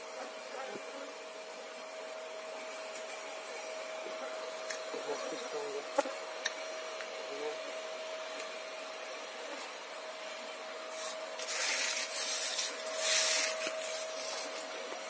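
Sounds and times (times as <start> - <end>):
vacuum whine and hiss: 0.0 - 15.0.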